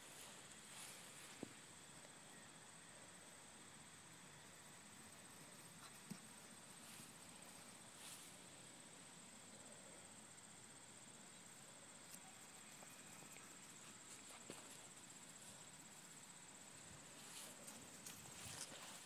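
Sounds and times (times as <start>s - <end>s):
faint ticks and rustles: 0.0s - 2.2s, 3.2s - 19.0s.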